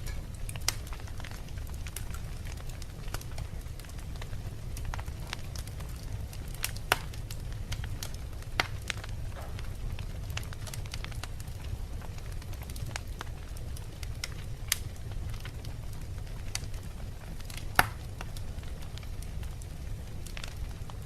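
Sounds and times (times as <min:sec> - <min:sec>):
flames rumbling: 0:00.0 - 0:21.0
logs crackling and popping: 0:00.0 - 0:21.0.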